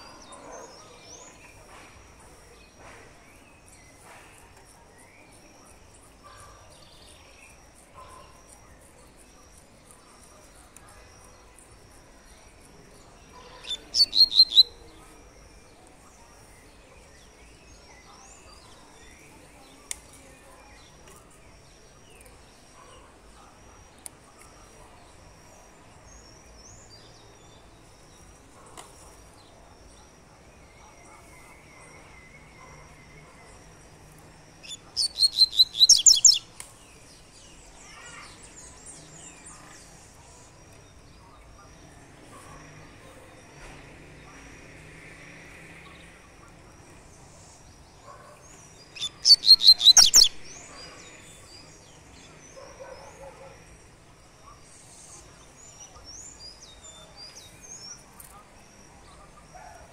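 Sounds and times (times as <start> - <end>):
faint high chirping: 0.0 - 43.8, 46.5 - 59.9.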